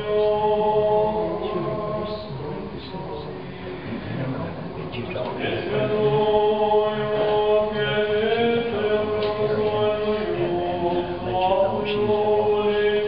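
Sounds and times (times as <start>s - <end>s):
voices chanting long notes: 0.0s - 3.7s, 5.4s - 13.0s.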